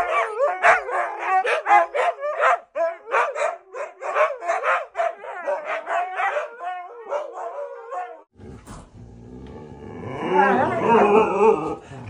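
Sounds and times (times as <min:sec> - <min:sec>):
dogs howling: 0:00.0 - 0:08.3, 0:10.1 - 0:11.8.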